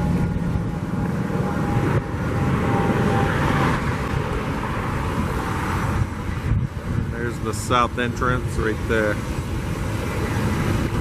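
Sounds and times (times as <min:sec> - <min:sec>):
vehicle passing: 0:00.0 - 0:11.0
wind buffeting microphone: 0:00.0 - 0:11.0.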